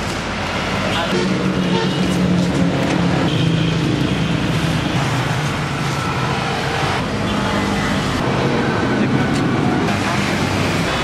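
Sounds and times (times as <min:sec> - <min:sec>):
traffic engine hum: 0:00.0 - 0:11.0.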